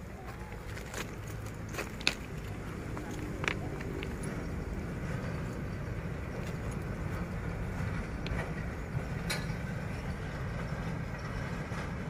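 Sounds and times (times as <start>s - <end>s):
locomotive diesel engine rumbling: 0.0s - 12.0s.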